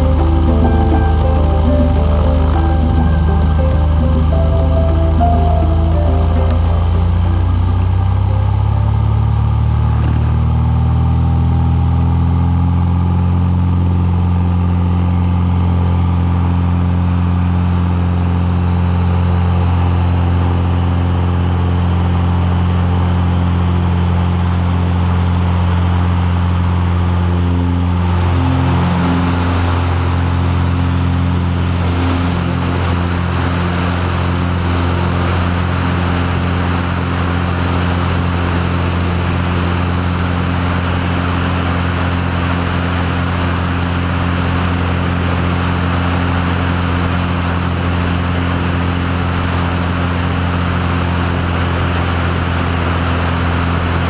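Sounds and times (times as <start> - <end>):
propeller airplane engine: 0.0 - 54.0.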